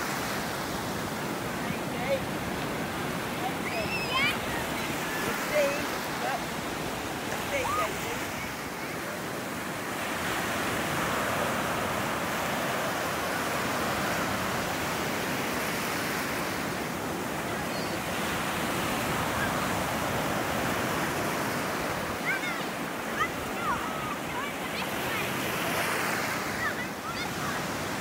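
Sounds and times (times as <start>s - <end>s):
ocean surf breaking: 0.0s - 28.0s.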